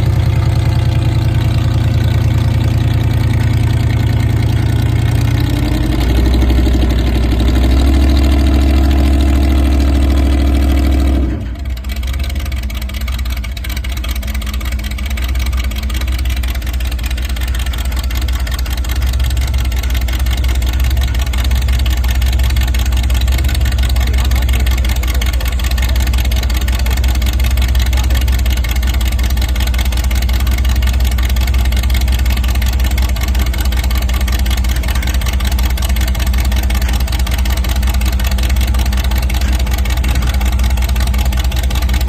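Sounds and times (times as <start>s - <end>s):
vehicle engine droning: 0.0s - 42.0s.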